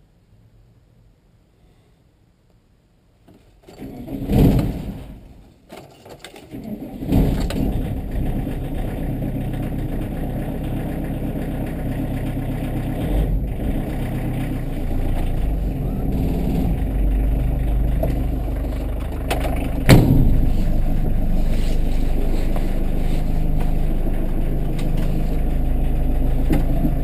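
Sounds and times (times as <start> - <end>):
diesel engine starting and idling: 3.7 - 5.3, 6.5 - 27.0.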